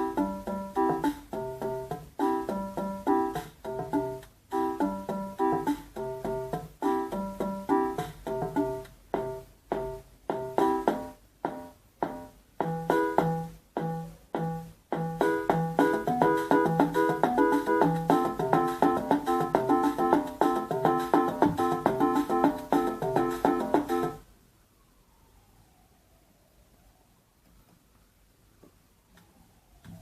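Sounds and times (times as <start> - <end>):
electronic keyboard music: 0.0 - 24.2.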